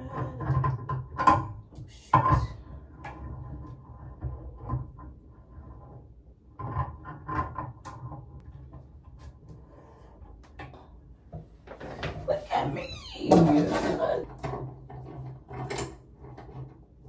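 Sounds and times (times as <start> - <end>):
shower fitting knocking and rubbing: 0.0 - 17.0.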